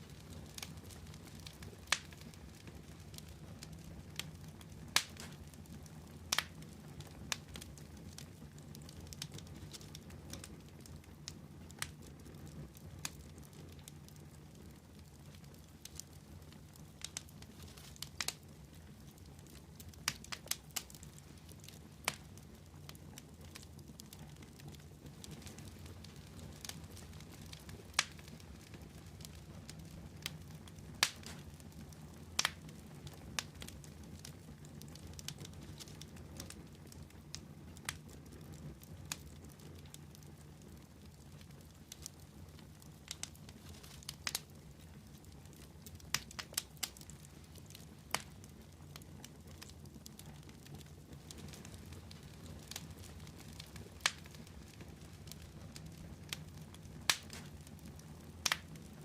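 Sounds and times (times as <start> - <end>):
fire crackling: 0.0 - 59.0
low rumble of flames: 0.0 - 59.0.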